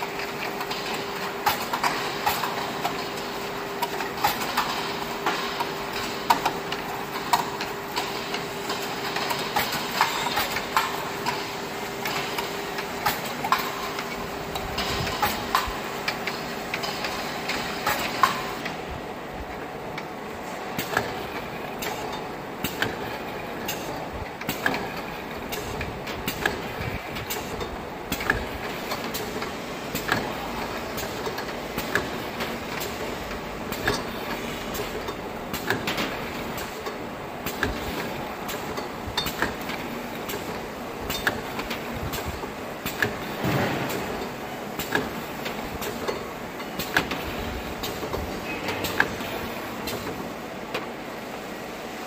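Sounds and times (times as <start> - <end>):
labeling machine running: 0.0 - 52.0.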